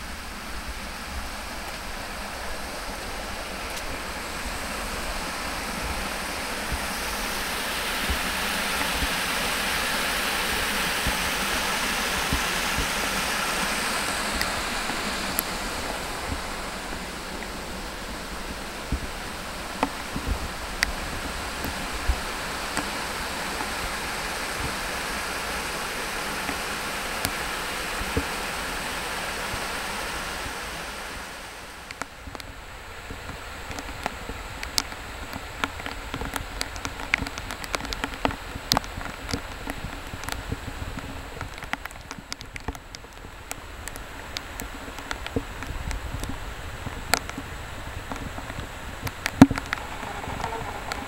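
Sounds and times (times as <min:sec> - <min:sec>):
rain: 0:00.0 - 0:51.0
raindrops ticking close by: 0:00.0 - 0:51.0
waterfall rushing: 0:00.0 - 0:51.0.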